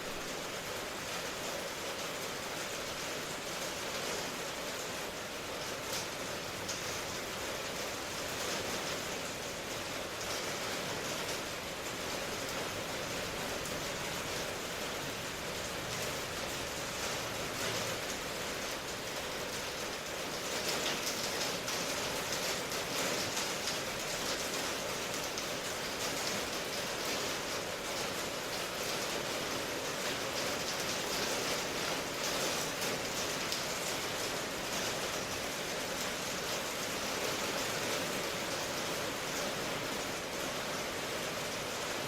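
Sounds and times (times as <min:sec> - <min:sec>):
steady rainfall: 0:00.0 - 0:42.0.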